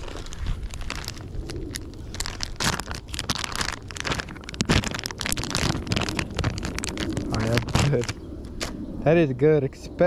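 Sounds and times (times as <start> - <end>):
rustling and crackling clicks: 0.0 - 8.8
low rumble: 0.0 - 10.0.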